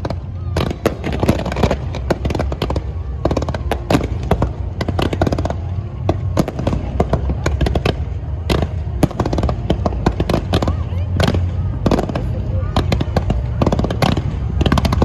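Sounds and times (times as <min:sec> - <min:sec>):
fireworks bangs and crackles: 0:00.0 - 0:15.0
steady low rumble: 0:00.0 - 0:15.0.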